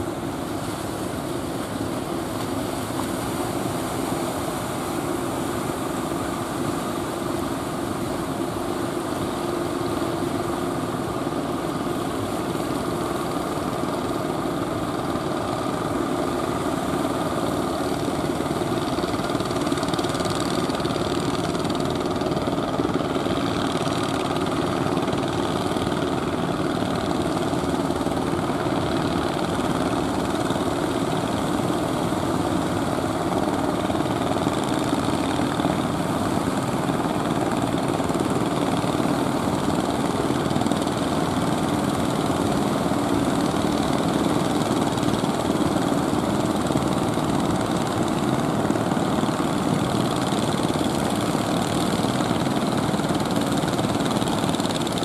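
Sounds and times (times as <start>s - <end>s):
small boat engine running: 0.0s - 55.0s
surf washing: 0.0s - 55.0s.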